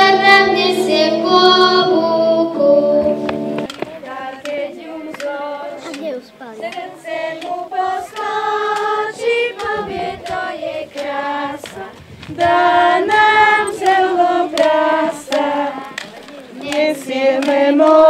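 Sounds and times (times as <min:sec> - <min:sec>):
children and women singing: 0:00.0 - 0:18.0.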